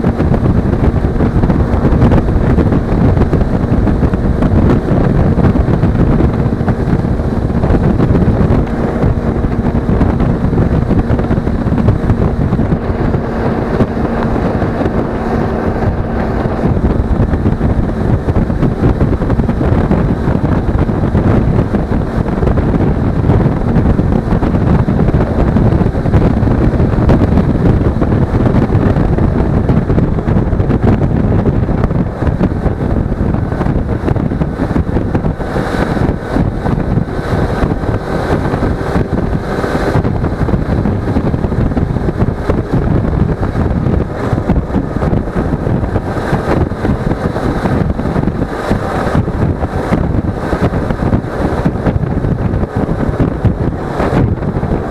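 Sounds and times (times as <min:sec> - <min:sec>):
motorcycle engine hum: 0:00.0 - 0:54.9
wind buffeting microphone: 0:00.0 - 0:54.9.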